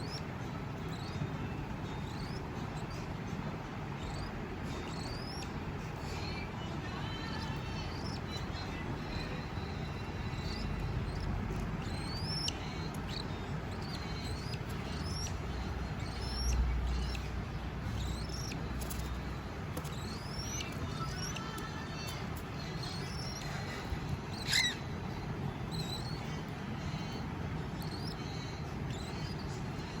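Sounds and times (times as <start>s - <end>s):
cockatiels chirping: 0.0s - 30.0s
low steady rumble: 0.0s - 30.0s.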